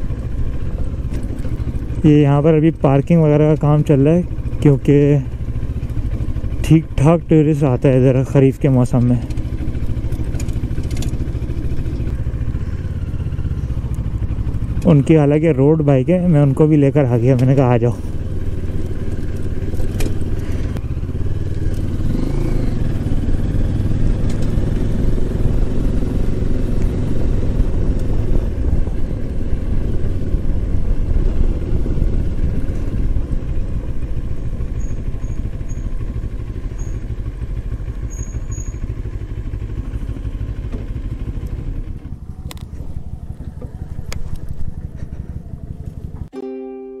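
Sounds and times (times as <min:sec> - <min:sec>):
motorcycle engine rumbling: 0:00.0 - 0:46.6.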